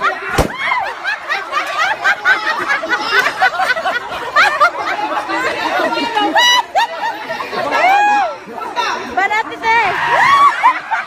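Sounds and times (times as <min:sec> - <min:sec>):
people laughing: 0:00.0 - 0:09.0, 0:10.0 - 0:11.0.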